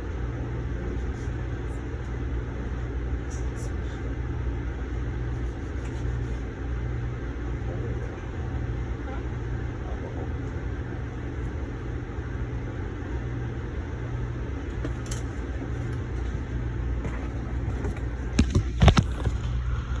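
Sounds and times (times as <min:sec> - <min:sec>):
train coach rumble and hum: 0:00.0 - 0:20.0.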